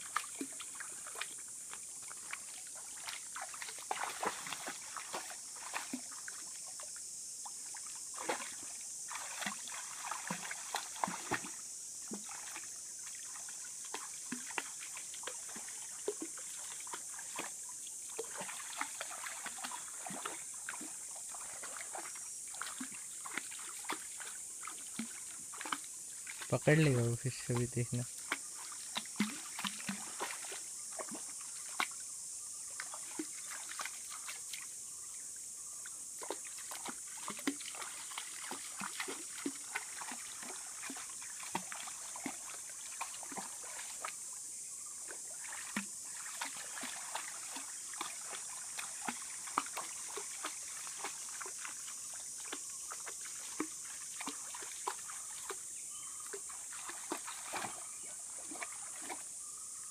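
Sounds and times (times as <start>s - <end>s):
dog splashing through water: 0.0s - 6.5s, 8.1s - 12.6s, 13.2s - 31.9s, 32.8s - 34.6s, 36.2s - 44.2s, 45.1s - 55.6s, 56.2s - 59.3s.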